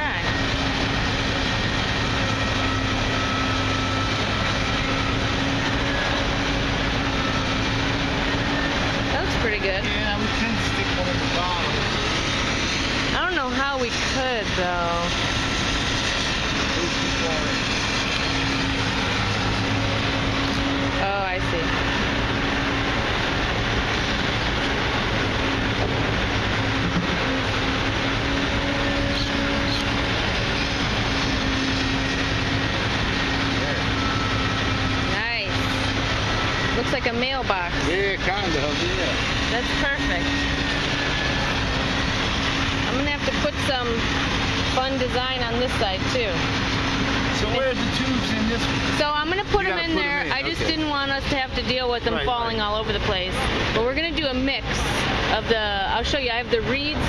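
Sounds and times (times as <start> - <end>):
machine rushing drone: 0.0 - 57.0
mechanical hum: 0.0 - 57.0.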